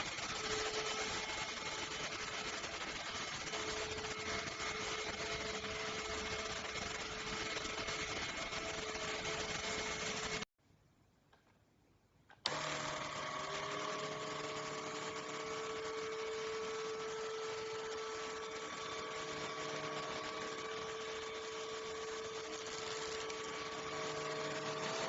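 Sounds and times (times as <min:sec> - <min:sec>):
vacuum cleaner motor whine: 0:00.0 - 0:10.4, 0:12.4 - 0:25.0.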